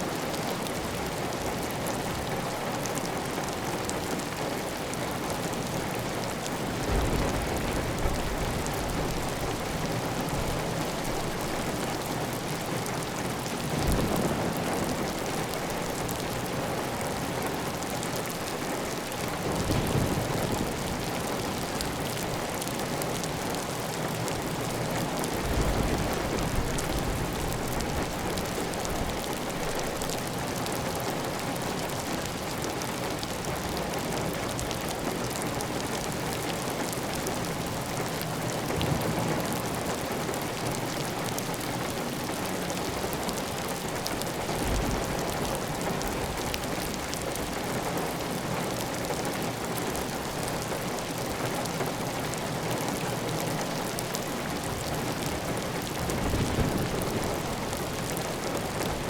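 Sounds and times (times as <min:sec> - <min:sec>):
heavy rain on a tile roof: 0:00.0 - 0:59.0.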